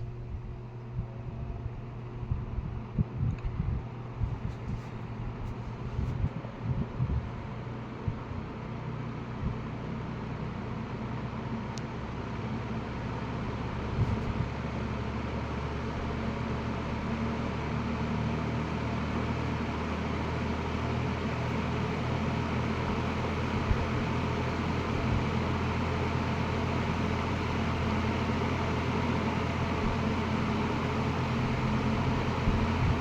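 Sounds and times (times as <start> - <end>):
fan motor hum with air rush: 0.0 - 33.0.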